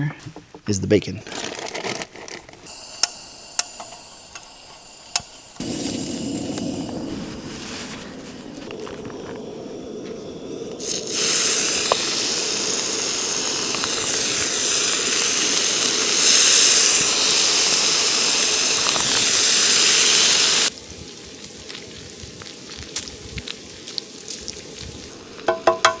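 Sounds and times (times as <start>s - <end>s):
food hissing on camp stove: 2.4s - 26.0s.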